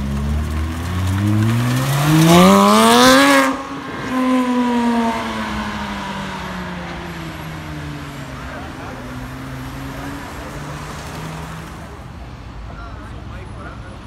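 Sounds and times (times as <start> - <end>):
sports car accelerating hard: 0.0 - 12.0.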